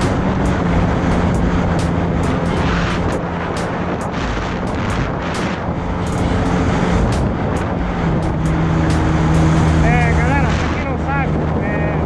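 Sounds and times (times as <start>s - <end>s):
jet ski engine running: 0.0s - 12.0s
rushing water and wind: 0.0s - 12.0s.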